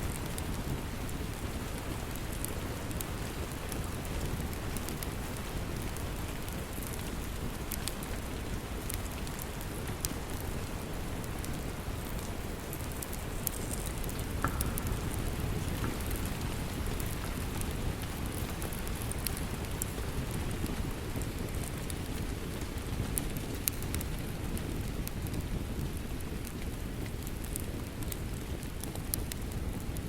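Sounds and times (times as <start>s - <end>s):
steady rain: 0.0s - 30.0s
wood fire crackling: 0.0s - 30.0s.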